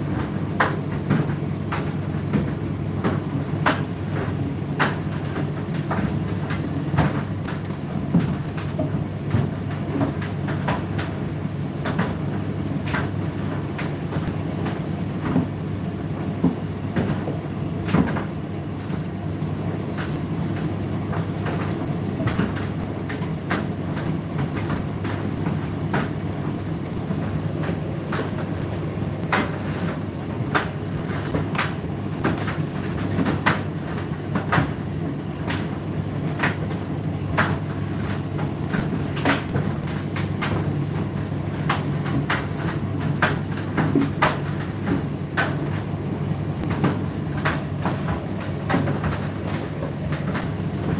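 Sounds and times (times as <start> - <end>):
tumble dryer motor humming: 0.0 - 50.9.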